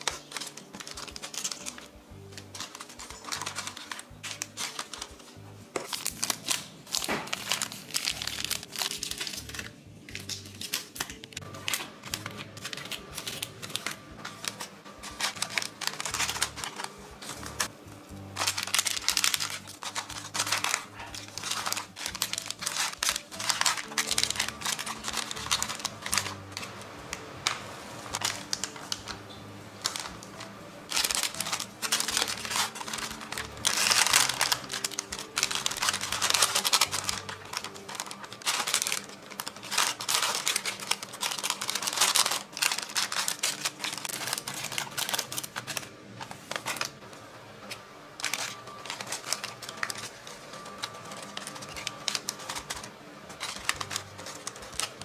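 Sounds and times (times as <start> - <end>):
plastic wrappers crinkling: 0.0 - 55.0
soft background music: 0.0 - 55.0.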